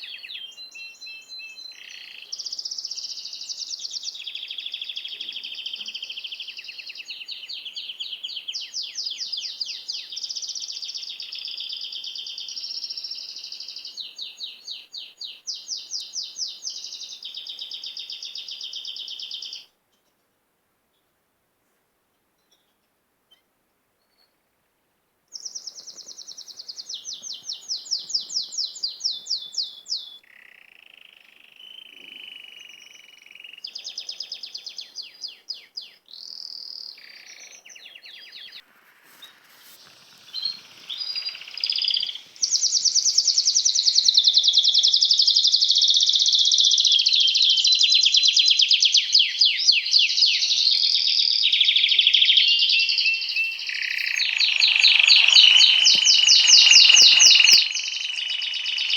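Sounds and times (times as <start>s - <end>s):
songbirds singing: 0.0s - 19.7s, 25.4s - 58.9s.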